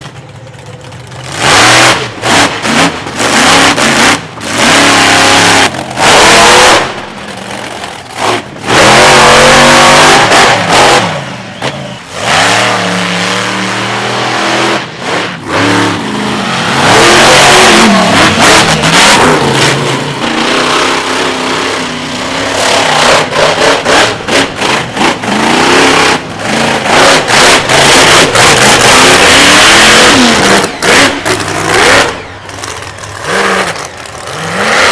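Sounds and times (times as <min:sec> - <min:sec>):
monster truck engines revving: 0:00.0 - 0:34.9.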